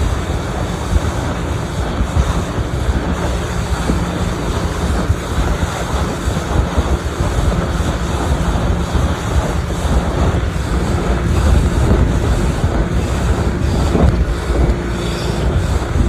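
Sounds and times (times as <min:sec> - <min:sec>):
boat low rumble: 0:00.0 - 0:16.0
wind buffeting microphone: 0:00.0 - 0:16.0.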